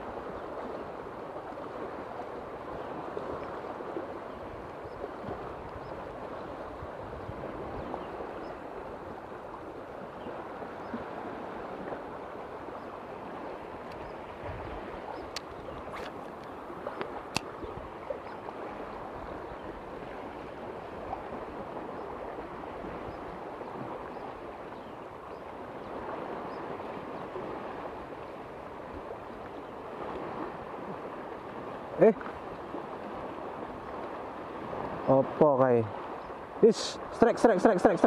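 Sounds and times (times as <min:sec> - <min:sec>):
small waves lapping: 0:00.0 - 0:38.0.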